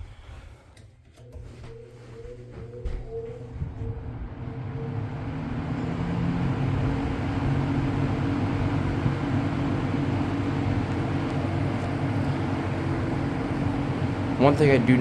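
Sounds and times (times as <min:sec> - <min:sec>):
box fan motor hum: 0:01.0 - 0:15.0.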